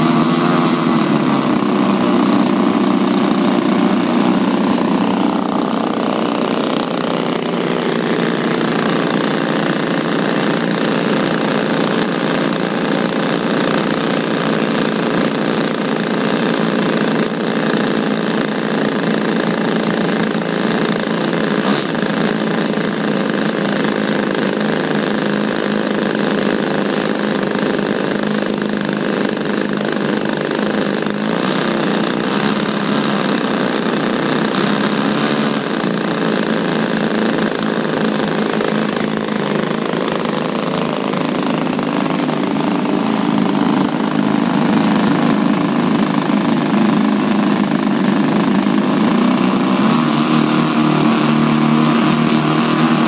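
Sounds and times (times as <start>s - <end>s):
model aircraft engines running: 0.0s - 53.0s.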